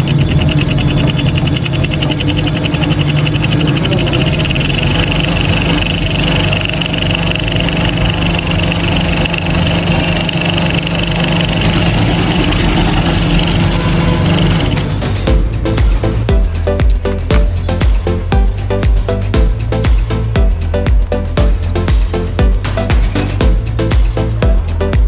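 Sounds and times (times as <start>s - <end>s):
coil-winding machine humming: 0.0s - 25.0s.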